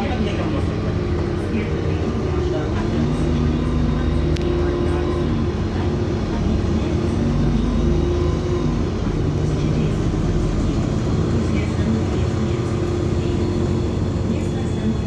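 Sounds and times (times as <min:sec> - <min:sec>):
bus diesel engine drone: 0:00.0 - 0:15.0
road and tyre noise: 0:00.0 - 0:15.0.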